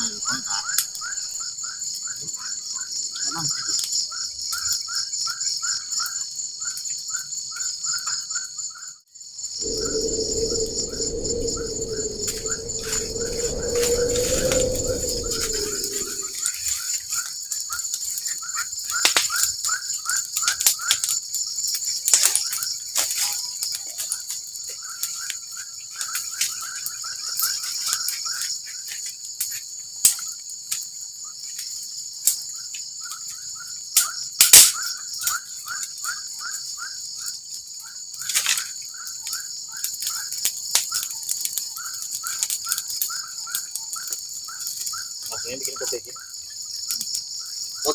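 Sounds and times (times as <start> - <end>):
insects droning high-pitched: 0.0 - 20.4, 24.4 - 47.9.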